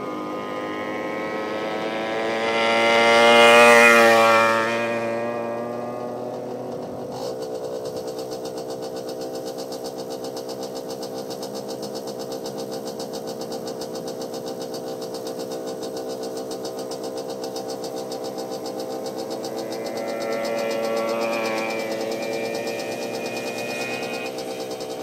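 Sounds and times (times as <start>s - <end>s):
vehicle engine running pulsing: 0.0s - 25.0s.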